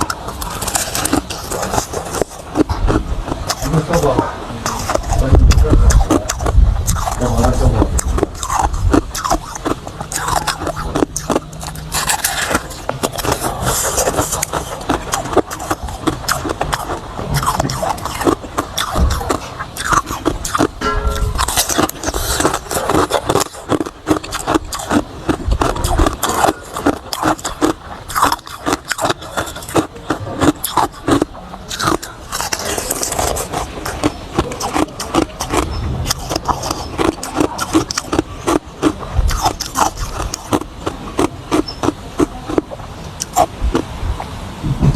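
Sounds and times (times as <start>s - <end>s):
ice crunching being chewed: 0.0s - 44.4s.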